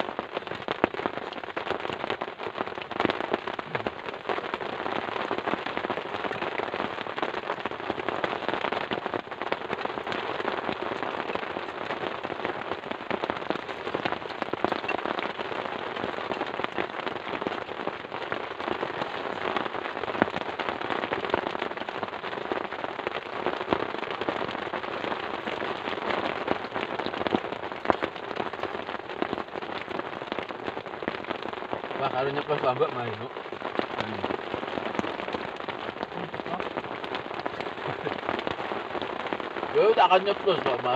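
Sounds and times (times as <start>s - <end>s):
raindrops hitting a surface: 0.0s - 40.9s
steady rain: 0.0s - 40.9s.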